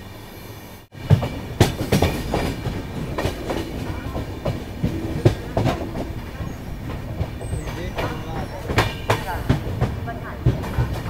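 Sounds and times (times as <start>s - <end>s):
train wheels clattering over joints: 1.0s - 11.0s.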